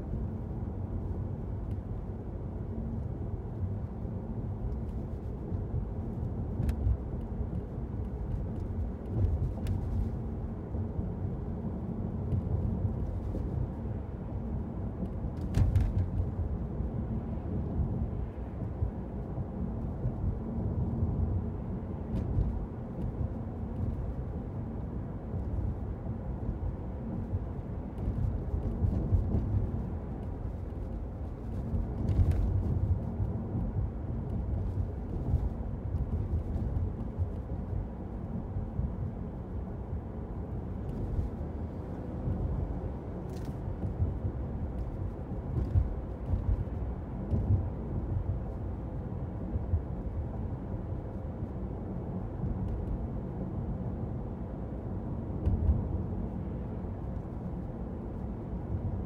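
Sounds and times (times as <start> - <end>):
engine and tyre rumble: 0.0 - 59.0.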